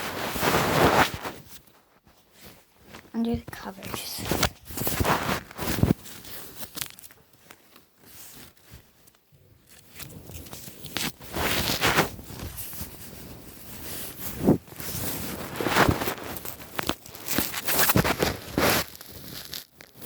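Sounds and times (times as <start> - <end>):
rustling bedcovers: 0.0 - 20.0.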